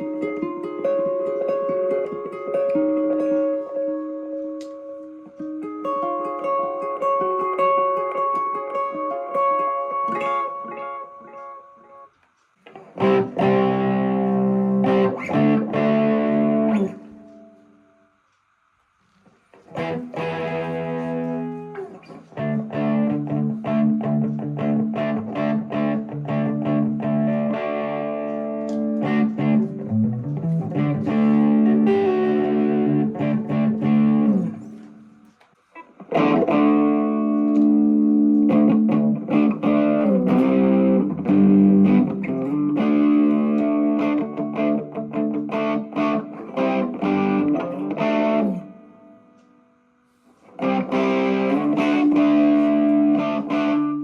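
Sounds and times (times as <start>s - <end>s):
electric guitar notes and chords: 0.0s - 18.1s, 19.6s - 54.0s.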